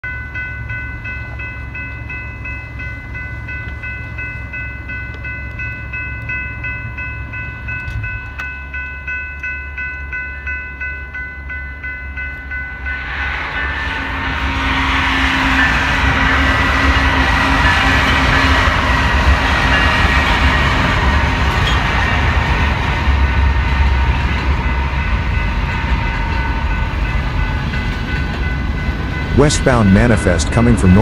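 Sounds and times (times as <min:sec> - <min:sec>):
diesel locomotives rumbling: 0:00.0 - 0:31.0
railroad crossing bell ringing: 0:00.0 - 0:31.0
train wheels rushing on rails: 0:00.3 - 0:31.0.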